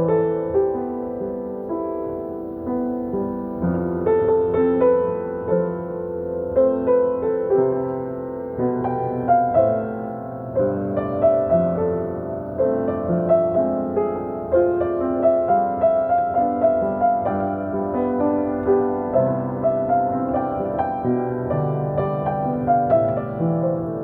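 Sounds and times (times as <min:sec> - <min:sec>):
slow solo piano melody: 0:00.0 - 0:24.0.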